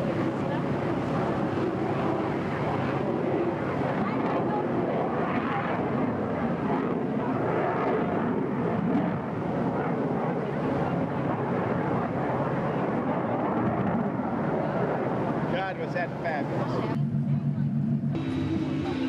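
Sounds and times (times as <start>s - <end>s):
fighter jet passing overhead: 0.0s - 19.0s.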